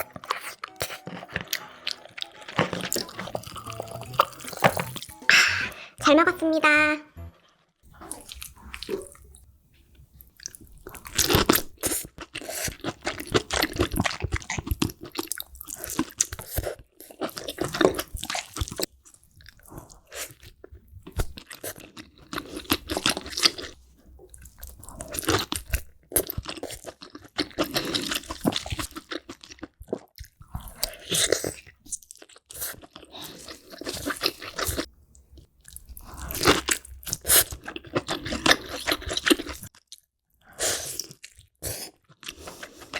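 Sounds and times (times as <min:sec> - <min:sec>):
person crunching and chewing: 0:00.0 - 0:05.8, 0:07.5 - 0:09.4, 0:10.2 - 0:42.9.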